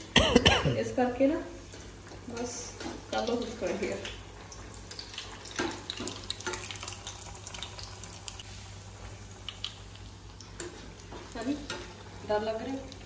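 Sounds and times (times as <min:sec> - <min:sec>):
patties sizzling in oil: 0:00.8 - 0:13.0.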